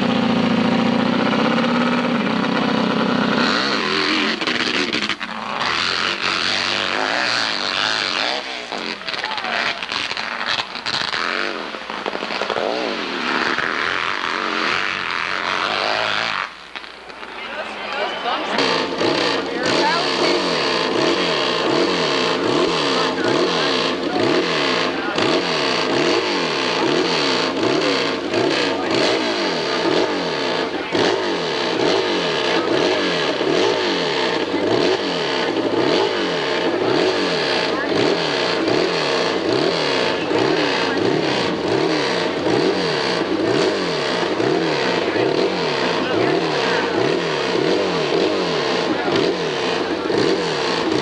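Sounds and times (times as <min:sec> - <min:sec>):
motorcycle engine revving hard: 0:00.0 - 0:51.0.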